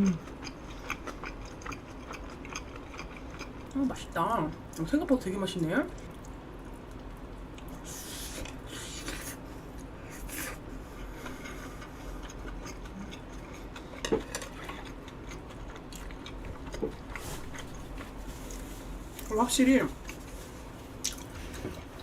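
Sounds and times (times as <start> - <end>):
person chewing: 0.0 - 3.8, 5.9 - 19.3, 20.0 - 22.0
steady low hum: 0.0 - 22.0.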